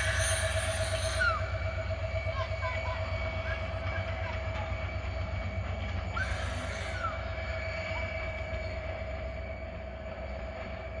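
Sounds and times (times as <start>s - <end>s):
diesel locomotive engine rumble: 0.0s - 11.0s
steady whine: 0.0s - 11.0s.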